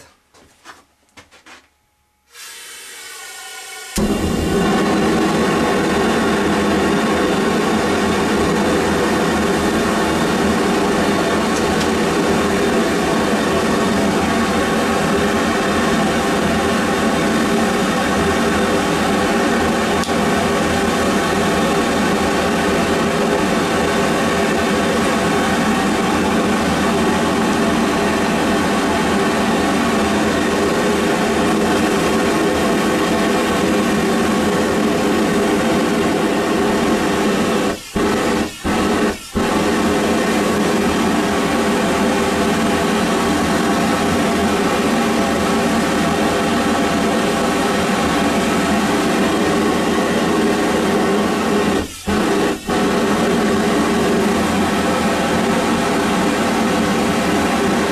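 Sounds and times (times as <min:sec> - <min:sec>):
gas burner flame roaring: 0:02.3 - 0:57.9.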